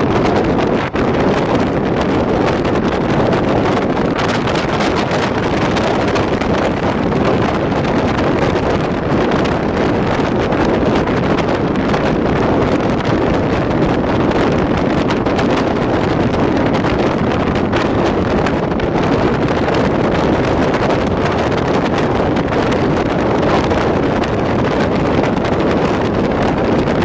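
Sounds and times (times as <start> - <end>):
moving train running noise: 0.0 - 27.0
wind buffeting microphone: 0.0 - 27.0.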